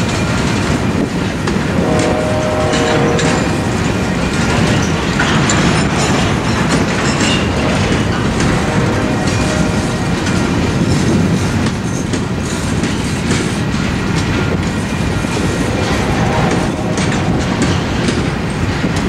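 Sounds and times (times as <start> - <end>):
wheels clicking over rail joints: 0.0 - 15.3
train wheels rumbling on rail: 0.0 - 19.0.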